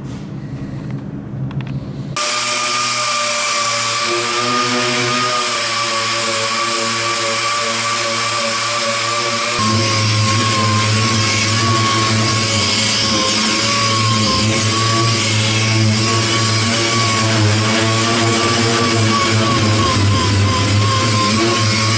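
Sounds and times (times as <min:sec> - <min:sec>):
air sander whine on metal: 0:02.2 - 0:21.9.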